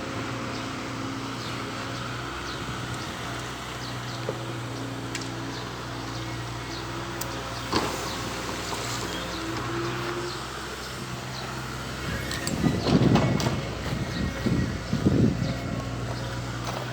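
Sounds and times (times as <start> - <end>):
diesel engine running: 0.0 - 16.9.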